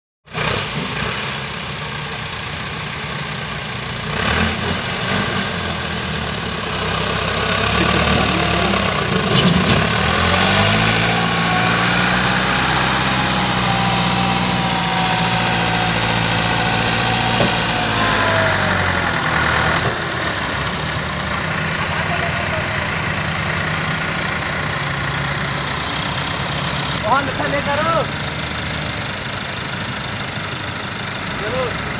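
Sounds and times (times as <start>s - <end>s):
tractor diesel engine straining: 0.3s - 31.9s.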